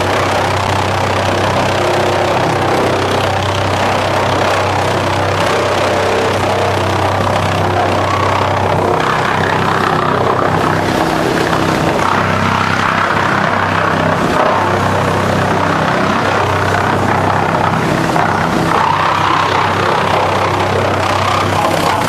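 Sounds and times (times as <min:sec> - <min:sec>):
wood being chipped: 0:00.0 - 0:22.0
wood chipper hum: 0:00.0 - 0:22.0.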